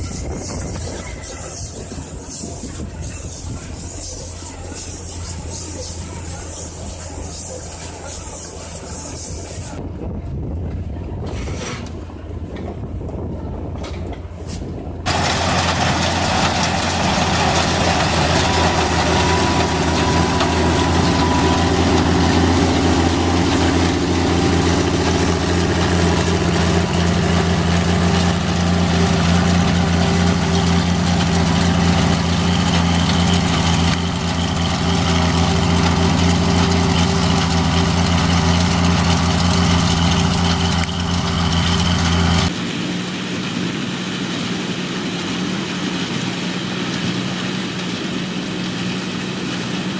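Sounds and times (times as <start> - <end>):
tractor engine droning: 0.0 - 9.8, 11.8 - 49.9.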